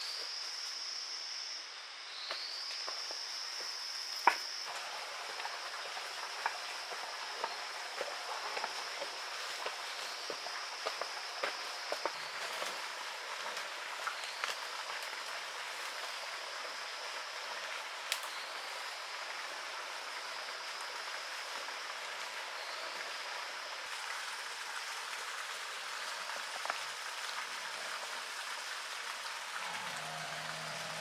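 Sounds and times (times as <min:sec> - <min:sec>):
water hissing: 0:04.4 - 0:31.0.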